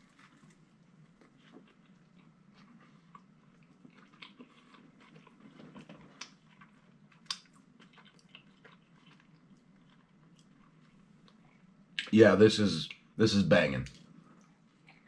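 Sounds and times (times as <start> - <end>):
chewing food: 0.0 - 12.1, 13.9 - 15.0.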